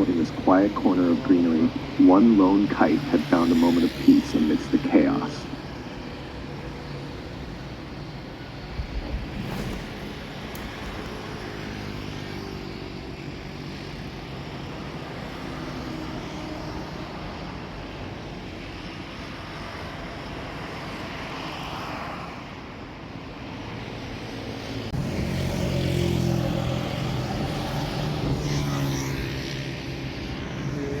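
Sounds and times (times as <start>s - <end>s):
engine drone: 0.0s - 21.3s, 23.8s - 31.0s.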